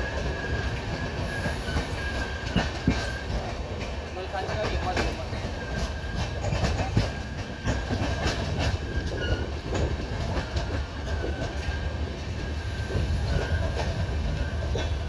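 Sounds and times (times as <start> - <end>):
high wheel squeal: 0.0 - 3.6, 4.2 - 15.0
train rumbling on track: 0.0 - 15.0
wheels clicking over rail joints: 0.0 - 15.0.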